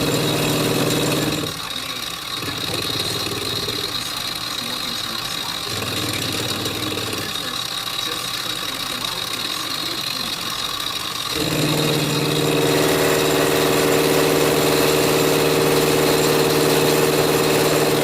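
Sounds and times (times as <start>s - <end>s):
pitched motor hum: 0.0s - 18.0s.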